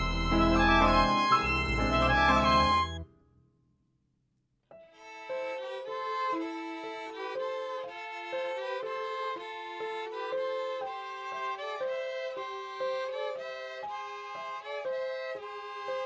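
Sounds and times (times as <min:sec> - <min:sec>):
violin background music: 0:00.0 - 0:03.0, 0:04.8 - 0:16.0.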